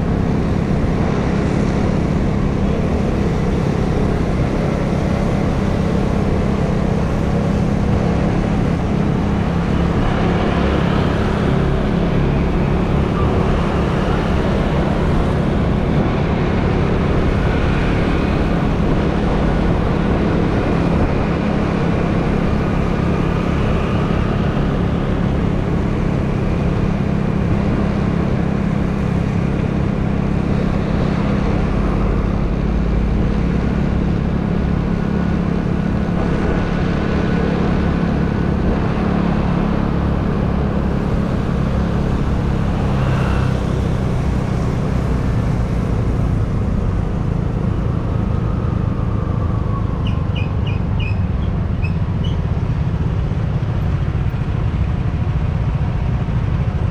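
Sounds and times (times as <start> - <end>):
road noise: 0.0 - 56.9
vehicle engine drone: 0.0 - 56.9
wind rumbling on microphone: 0.0 - 56.9.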